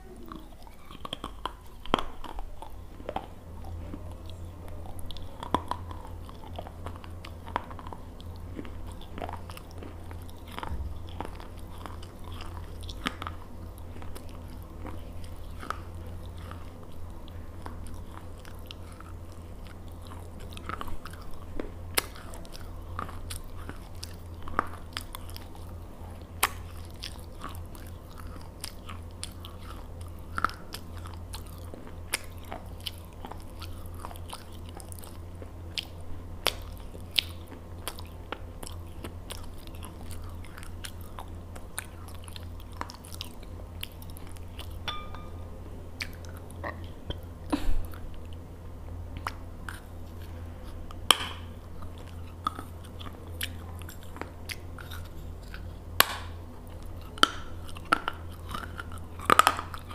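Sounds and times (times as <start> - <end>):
person chewing crunchy food: 0.0 - 59.9
steady low hum: 0.0 - 59.9.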